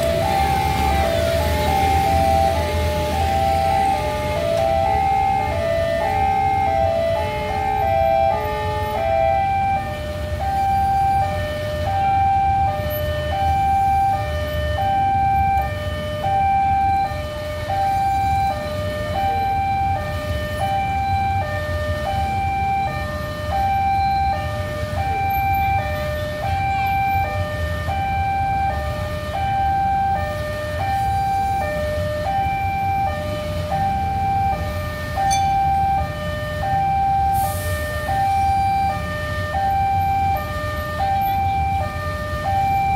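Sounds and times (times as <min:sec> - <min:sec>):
level crossing two-tone alarm: 0:00.0 - 0:42.9
road traffic rumble: 0:00.0 - 0:42.9.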